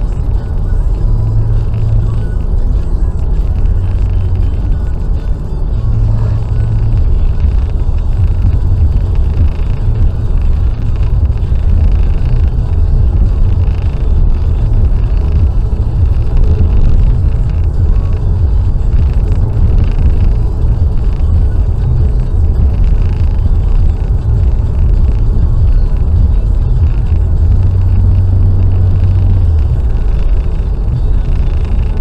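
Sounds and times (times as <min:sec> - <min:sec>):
car driving on motorway: 0:00.0 - 0:32.0.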